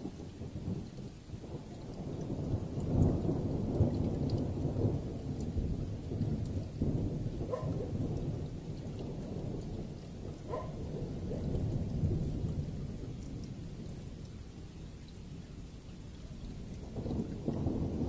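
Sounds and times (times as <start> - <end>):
rolling thunder: 0.0 - 14.1, 16.7 - 18.0
raindrops ticking: 0.0 - 18.0
steady rain: 0.0 - 18.0.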